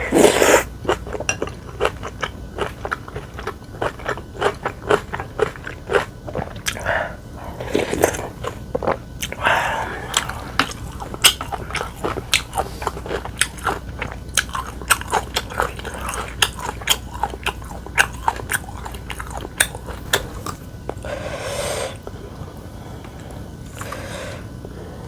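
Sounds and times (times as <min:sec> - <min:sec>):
chewing food: 0:00.0 - 0:25.0.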